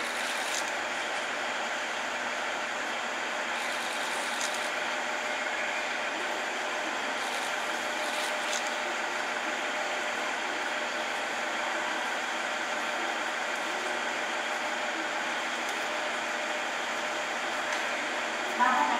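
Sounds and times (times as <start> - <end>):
train equipment humming and hissing: 0.0 - 18.9.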